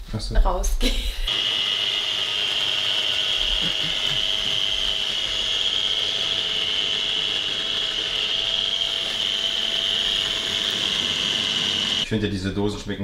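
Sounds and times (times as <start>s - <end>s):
blender motor whining: 1.3s - 12.1s.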